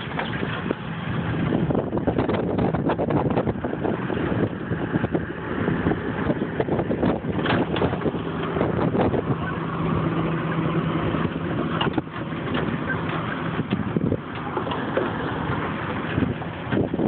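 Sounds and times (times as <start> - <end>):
engine hum: 0.0 - 17.0
wind noise on microphone: 0.0 - 17.0.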